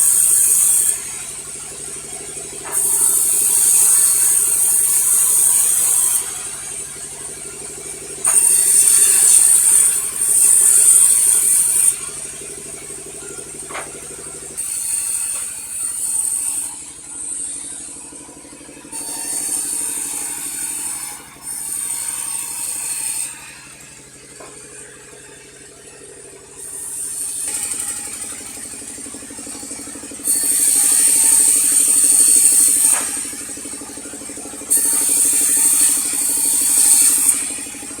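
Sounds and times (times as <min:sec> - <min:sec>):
saw cutting log whine: 0:00.0 - 0:38.0
sawmill engine hum: 0:00.0 - 0:38.0.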